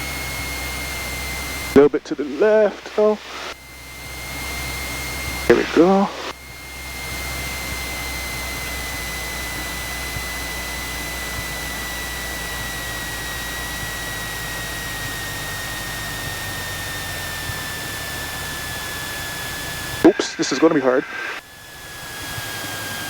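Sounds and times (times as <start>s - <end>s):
aircraft engine and airflow noise: 0.0s - 23.0s
high thin whine sinking in pitch: 0.0s - 23.0s.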